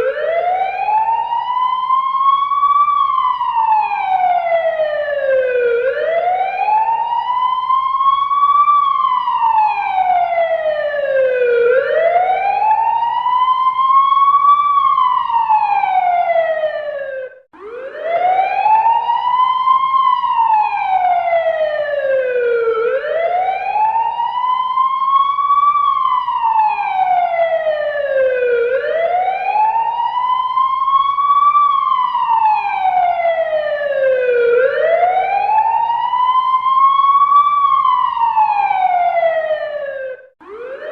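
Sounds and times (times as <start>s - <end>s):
fire engine siren wailing: 0.0s - 40.9s.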